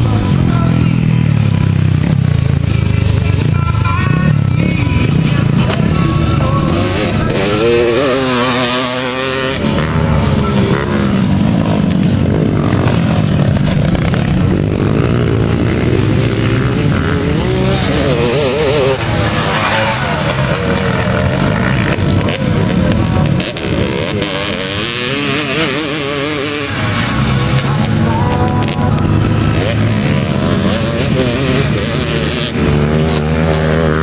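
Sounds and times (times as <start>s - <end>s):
motocross engines revving: 0.0s - 34.0s.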